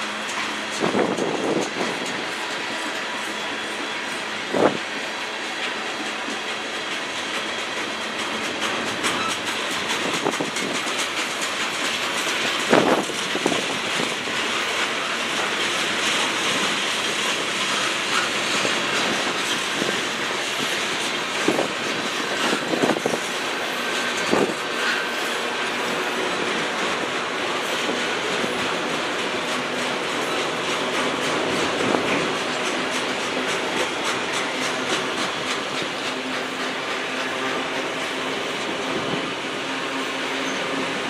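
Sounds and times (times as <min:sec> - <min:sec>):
train wheels rumbling on rail: 0:00.0 - 0:41.0
wheels clacking over rail joints: 0:00.0 - 0:41.0.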